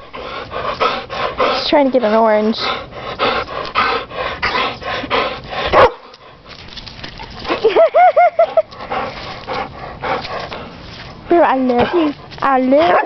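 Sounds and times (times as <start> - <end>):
dog panting: 0.0 - 7.6, 8.4 - 13.0.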